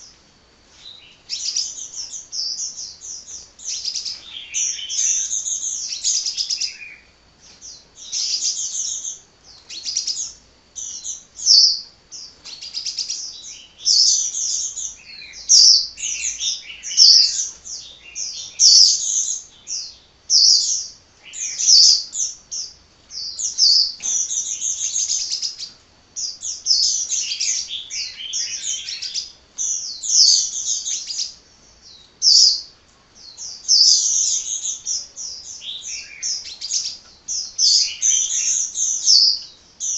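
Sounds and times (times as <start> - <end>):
sunbird twittering song: 0.0 - 39.9.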